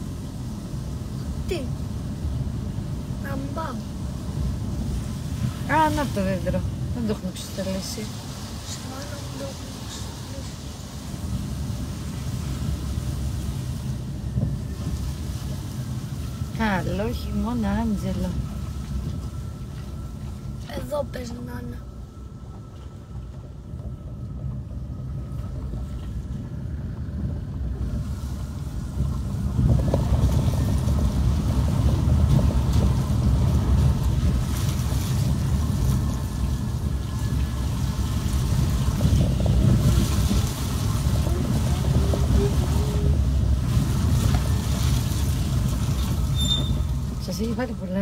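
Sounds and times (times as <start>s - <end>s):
car driving on wet streets: 0.0s - 48.0s
wind buffeting microphone: 0.0s - 48.0s.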